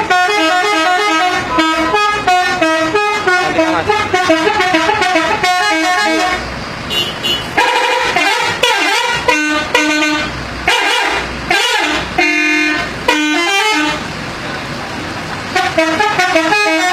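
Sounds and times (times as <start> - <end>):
air horns playing a melody: 0.0 - 14.0, 15.5 - 16.9.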